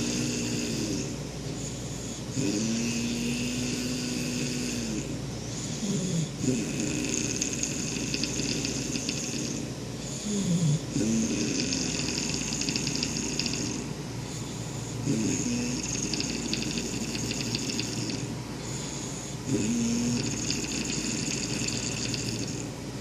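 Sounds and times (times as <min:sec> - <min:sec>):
snoring: 0:00.0 - 0:22.7.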